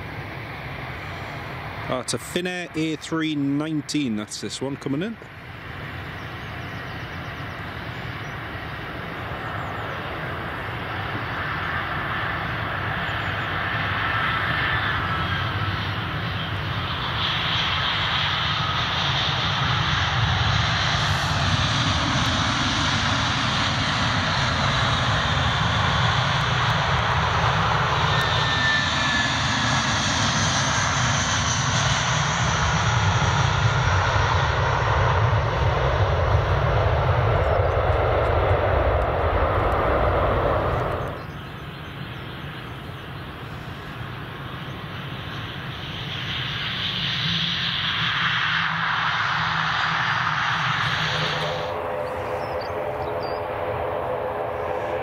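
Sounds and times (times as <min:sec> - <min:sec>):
jet airliner landing: 0:00.0 - 0:55.0.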